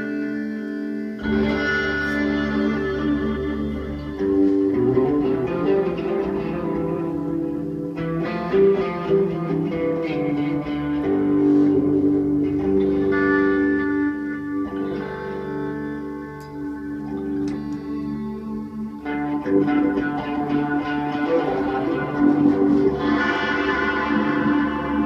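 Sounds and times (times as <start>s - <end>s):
guitar playing chords: 0.0s - 25.0s.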